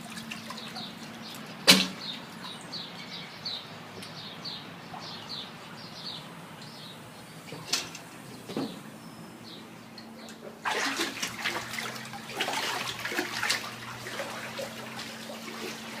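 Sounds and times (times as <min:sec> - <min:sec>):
water splashing and sloshing: 0:00.0 - 0:06.8, 0:07.4 - 0:09.0, 0:09.9 - 0:16.0.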